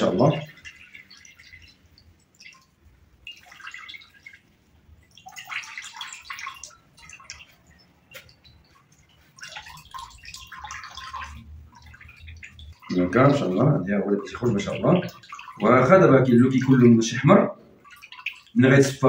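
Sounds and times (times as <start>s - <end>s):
juice trickling into bowl: 0.0s - 19.0s.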